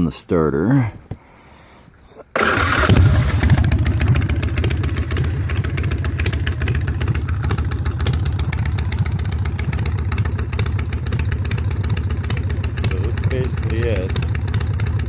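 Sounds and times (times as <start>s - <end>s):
motorcycle engine idling: 2.5s - 15.0s.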